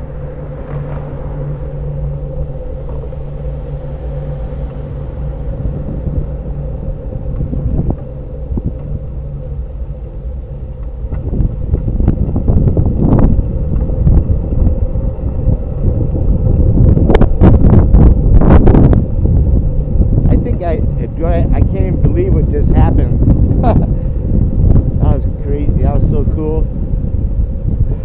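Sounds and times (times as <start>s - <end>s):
faint steady hum: 0.0s - 28.0s
wind buffets: 0.0s - 28.0s
wind noise on microphone: 0.0s - 28.0s.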